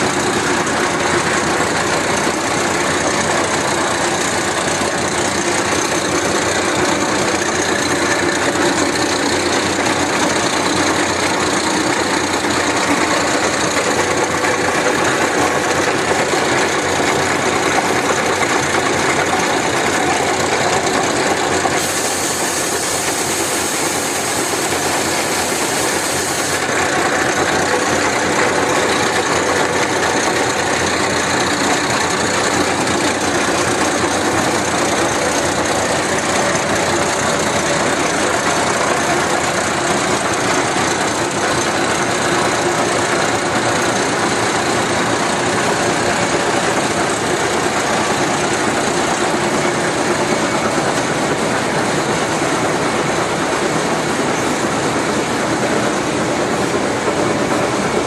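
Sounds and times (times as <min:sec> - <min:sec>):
industrial machinery drone: 0:00.0 - 0:58.0.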